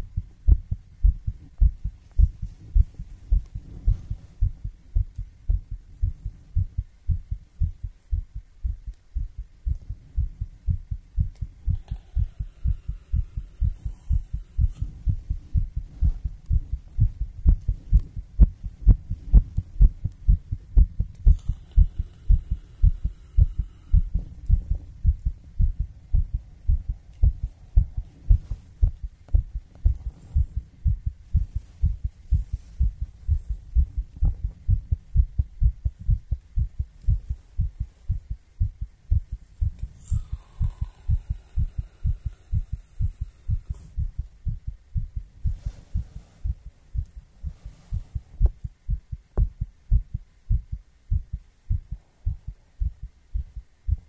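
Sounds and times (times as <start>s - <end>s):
faint high hiss: 0.0s - 54.0s
heartbeat thumps: 0.0s - 54.0s.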